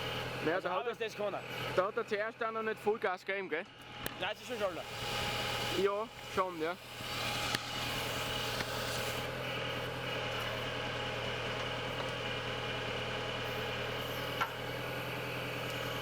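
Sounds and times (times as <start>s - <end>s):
tractor engine running: 0.0s - 3.0s, 3.6s - 16.0s.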